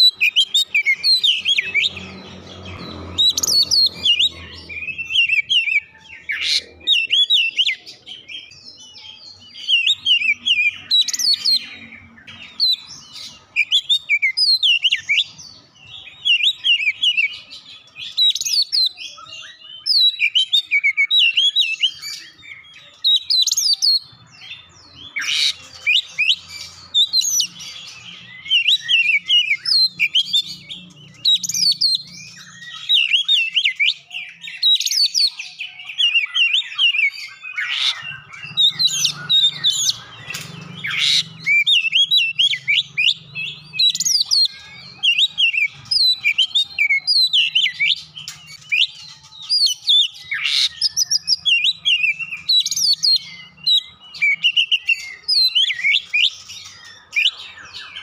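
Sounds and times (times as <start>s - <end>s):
songbird whistling and chattering: 0.0s - 58.0s.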